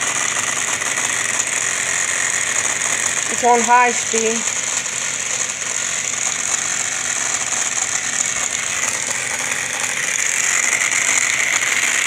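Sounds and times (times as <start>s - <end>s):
air conditioner fan whirring: 0.0s - 12.0s.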